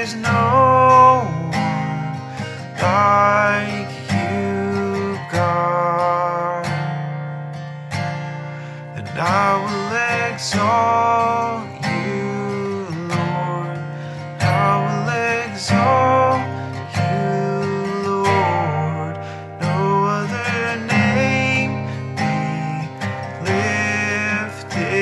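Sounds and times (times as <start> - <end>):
man singing worship song: 0.0 - 6.7, 9.0 - 25.0
strummed acoustic guitar: 0.0 - 25.0.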